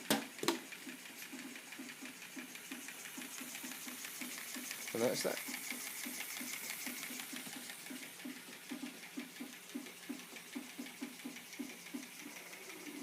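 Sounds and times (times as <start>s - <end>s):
motor hum: 0.0s - 13.0s
pneumatic pump piston strokes: 1.0s - 13.0s.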